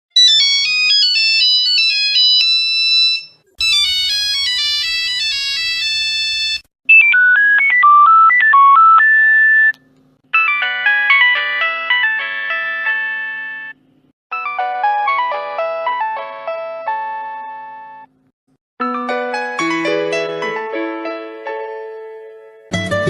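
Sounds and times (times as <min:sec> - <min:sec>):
phone ringtone melodies: 0:00.2 - 0:09.7, 0:10.3 - 0:18.1, 0:18.8 - 0:20.8.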